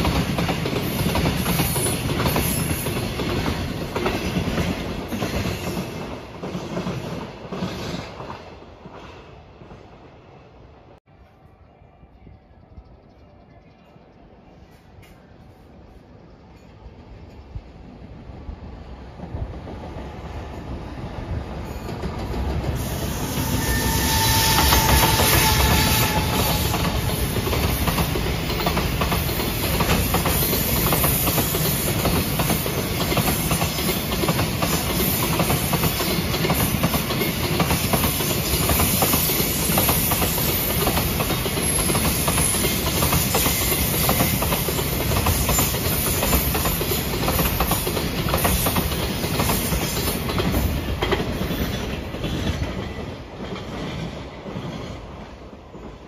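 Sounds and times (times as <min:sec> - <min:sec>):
train wheels clattering on rails: 0:00.0 - 0:10.0, 0:19.2 - 0:56.0.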